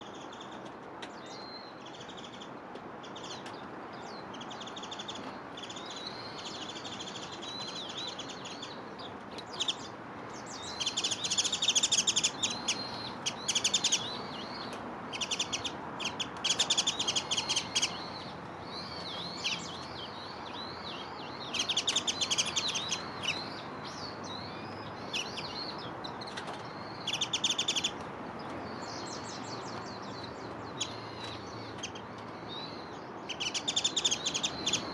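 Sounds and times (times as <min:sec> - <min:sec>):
songbirds chattering trills: 0:00.0 - 0:34.9.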